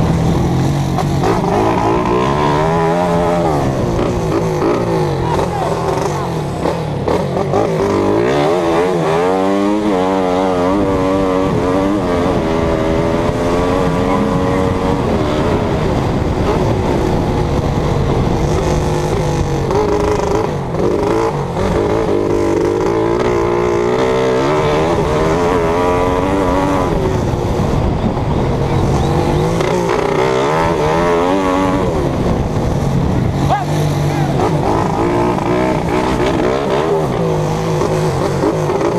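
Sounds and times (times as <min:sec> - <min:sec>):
race engine revving and shifting: 0:00.0 - 0:38.9.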